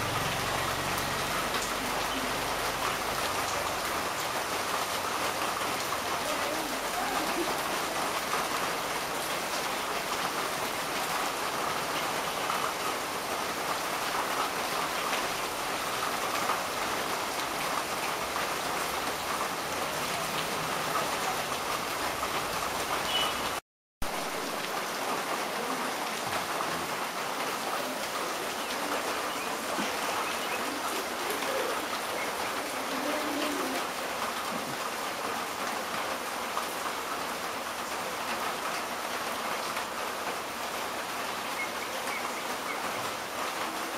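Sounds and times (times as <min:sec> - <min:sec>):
rain on gravel and puddles: 0:00.0 - 0:43.9.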